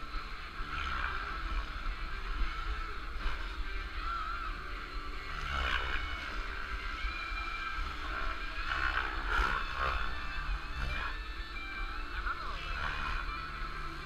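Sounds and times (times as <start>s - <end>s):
model airplane motor drone: 0.0s - 14.0s
wind rumble on microphone: 0.0s - 14.0s.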